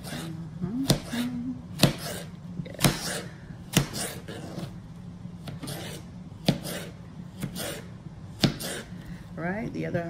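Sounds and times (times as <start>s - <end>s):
knife scraping through zucchini: 0.0s - 4.8s, 5.4s - 9.0s.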